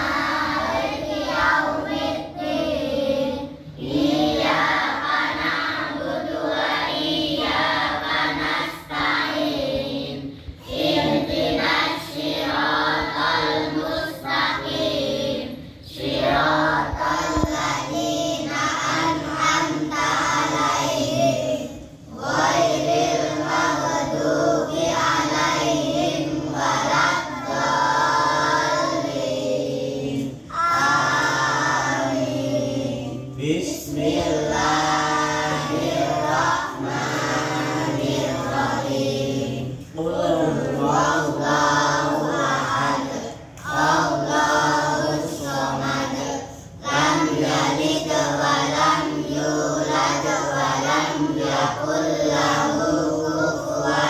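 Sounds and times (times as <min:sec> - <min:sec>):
children chanting in unison: 0:00.0 - 0:54.0.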